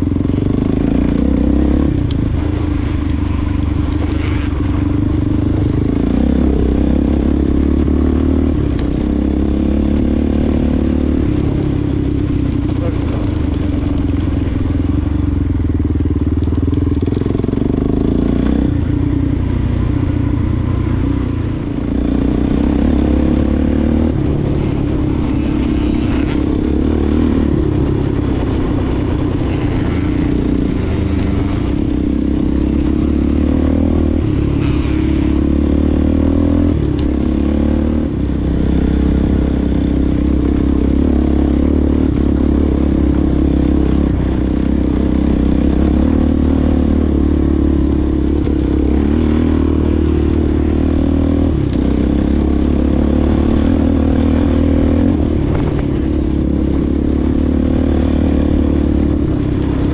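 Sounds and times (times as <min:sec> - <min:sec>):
clatter and scraping over terrain: 0:00.0 - 0:59.9
off-road motorcycle engine: 0:00.0 - 0:59.9.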